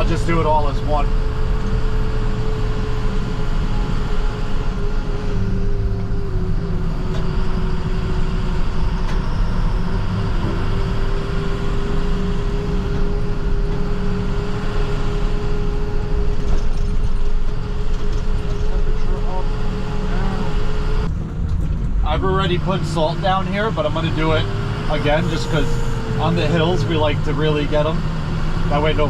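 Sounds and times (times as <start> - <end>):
constant whine: 0.0 - 29.0
truck engine and road rumble: 0.0 - 29.0.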